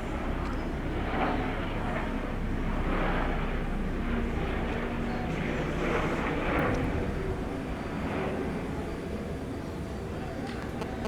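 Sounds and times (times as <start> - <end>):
helicopter flying over: 0.0 - 11.0.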